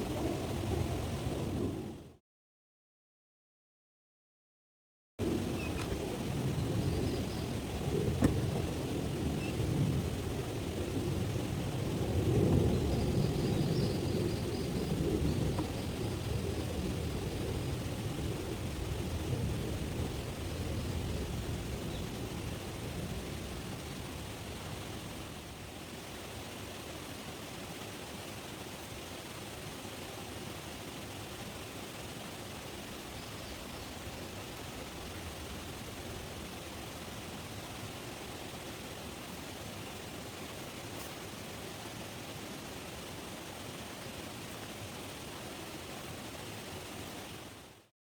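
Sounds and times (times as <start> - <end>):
steady rushing hiss: 5.2 - 47.9.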